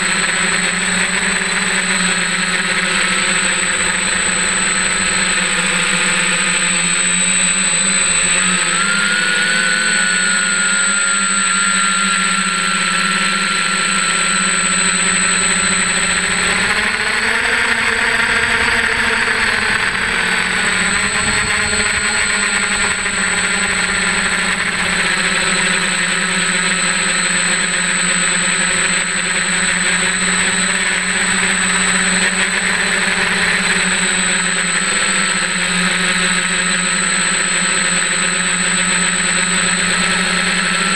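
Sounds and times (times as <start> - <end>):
drone propellers buzzing: 0.0 - 40.9
thin high whine: 0.0 - 40.9.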